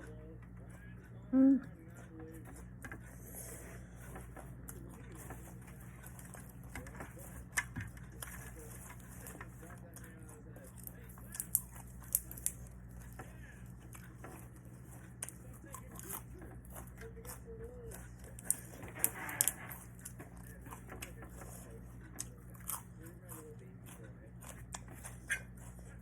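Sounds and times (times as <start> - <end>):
chewing crunchy vegetables: 0.0 - 26.0
steady low hum: 0.0 - 26.0
vegetables tearing and rustling: 4.1 - 26.0.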